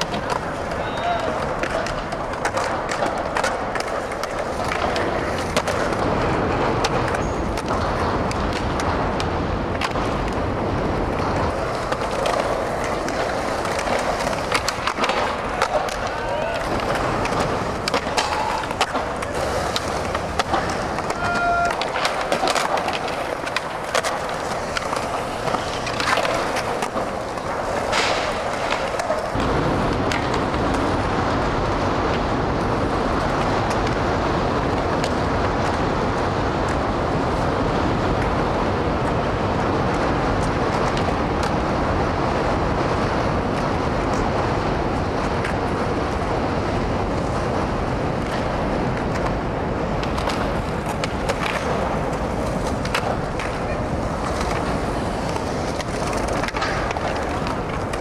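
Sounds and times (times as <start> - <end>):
skateboard tail clacks: 0.0 - 58.0
skateboard wheels rolling on concrete: 0.0 - 58.0.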